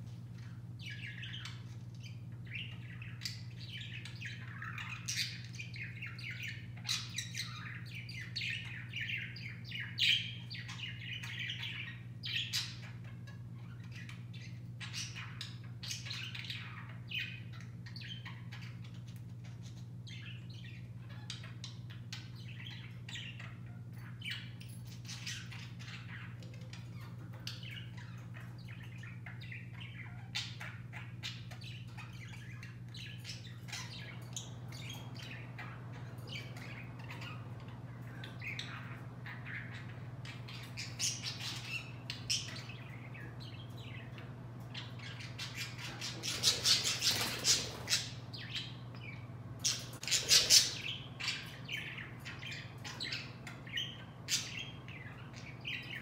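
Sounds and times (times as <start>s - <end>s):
budgerigars chirping: 0.4s - 56.0s.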